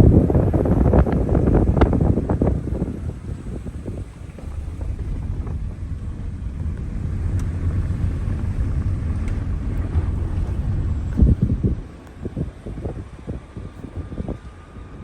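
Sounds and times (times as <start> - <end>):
vehicle road and engine rumble: 0.0 - 15.0
wind buffeting microphone: 0.0 - 15.0.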